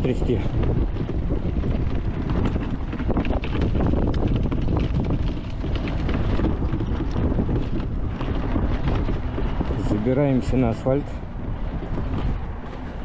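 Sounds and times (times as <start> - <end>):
knocks and rattles of vehicle: 0.0 - 13.0
wind buffeting microphone: 0.0 - 13.0.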